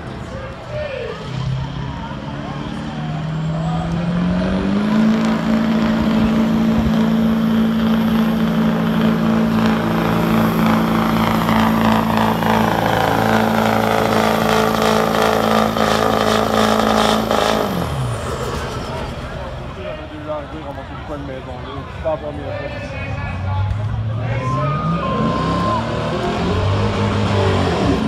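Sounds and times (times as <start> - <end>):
diesel pickup engine revving: 1.2 - 20.8, 23.4 - 28.0.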